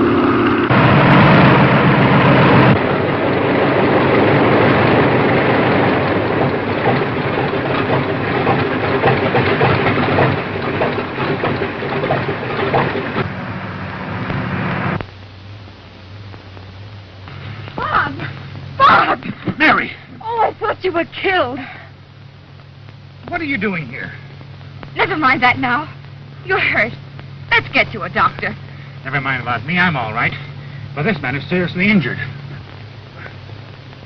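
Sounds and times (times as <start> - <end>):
biplane engine and propeller: 0.0 - 34.0
low hum: 0.0 - 34.0.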